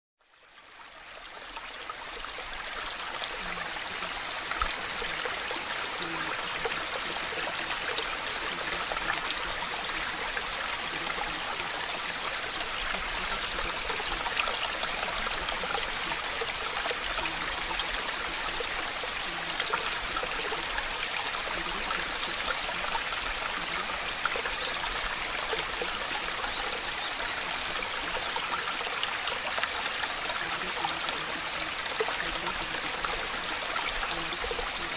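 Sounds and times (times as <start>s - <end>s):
rushing water hiss: 0.6s - 34.9s.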